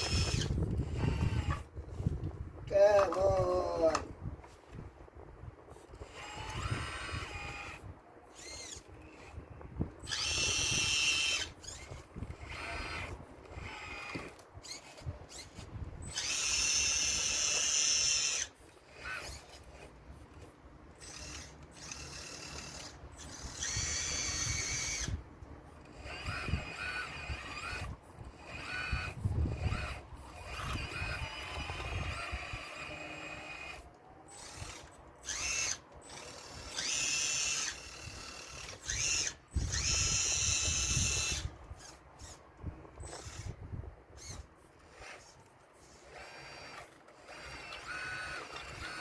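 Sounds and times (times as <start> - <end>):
electric motors whining: 0.0 - 4.1, 5.5 - 49.0.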